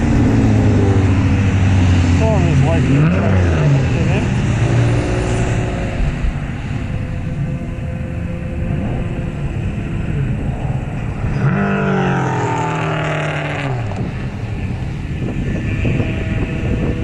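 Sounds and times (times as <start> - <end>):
race car passing close by: 0.0 - 7.7, 8.6 - 17.0
low rumble of other cars: 0.0 - 17.0.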